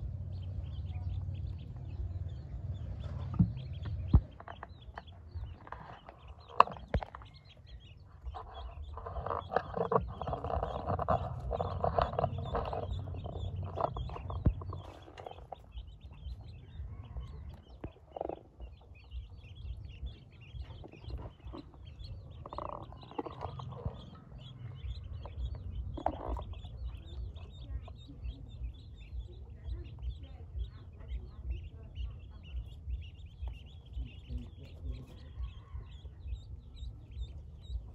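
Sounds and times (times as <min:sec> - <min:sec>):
ducklings peeping: 0:00.0 - 0:37.9.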